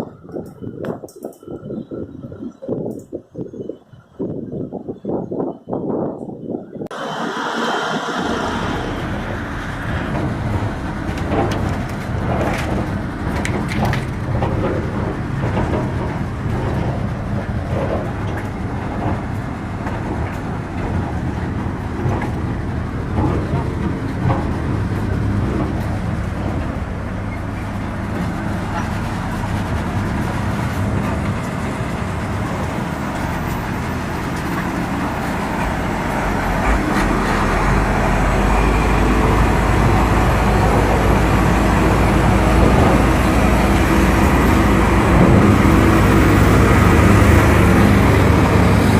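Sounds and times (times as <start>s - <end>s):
wheels rolling on railway track: 0.0s - 48.9s.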